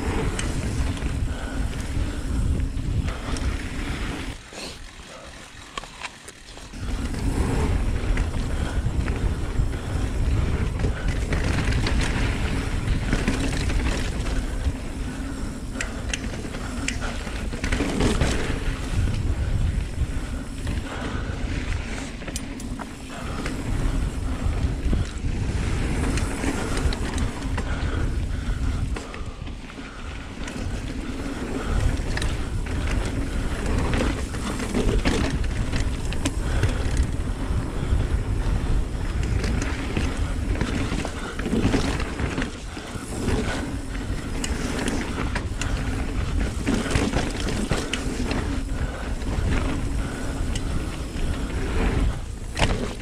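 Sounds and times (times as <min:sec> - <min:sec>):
bike rattles and ticks: 0:00.0 - 0:53.0
bike tyres rumbling on dirt: 0:00.0 - 0:53.0.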